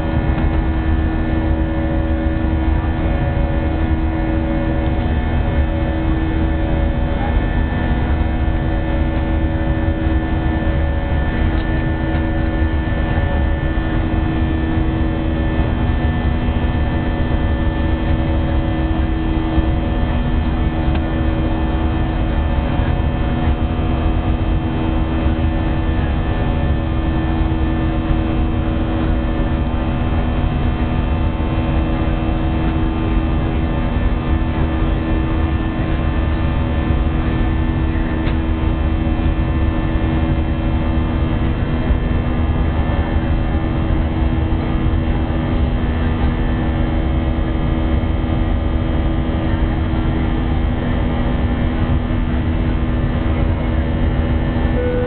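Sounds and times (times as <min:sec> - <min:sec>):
airplane cabin engine hum: 0:00.0 - 0:55.0.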